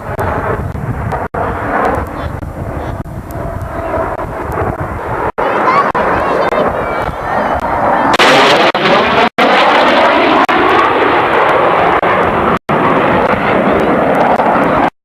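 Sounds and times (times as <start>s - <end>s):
aircraft flying low past: 0.0s - 14.9s.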